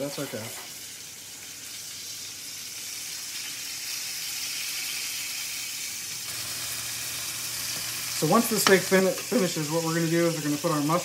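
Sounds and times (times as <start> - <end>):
steak sizzling in a skillet: 0.0 - 11.0.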